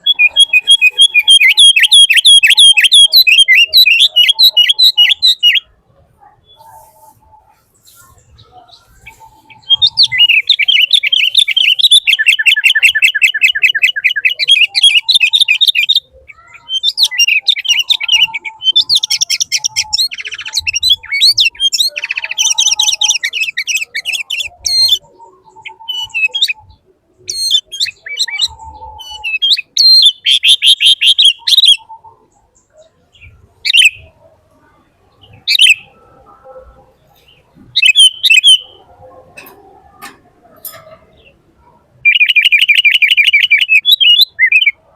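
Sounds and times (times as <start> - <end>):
bird trilling and chirping: 0.0 - 44.9.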